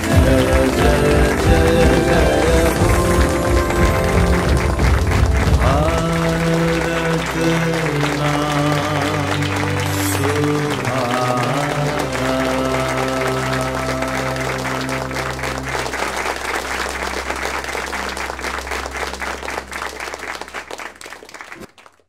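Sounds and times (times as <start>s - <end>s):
held final chord of song: 0.0s - 20.9s
audience applause: 0.0s - 22.0s.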